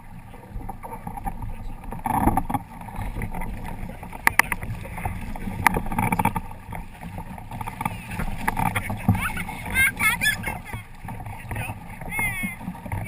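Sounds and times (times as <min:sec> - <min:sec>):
water rushing against hull: 0:00.0 - 0:13.0
knocks on hull: 0:00.6 - 0:13.0.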